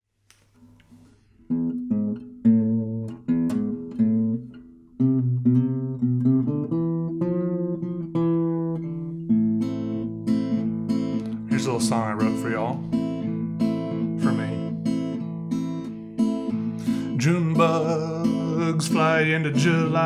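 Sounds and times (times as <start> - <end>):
acoustic guitar chords: 0.6 - 20.0.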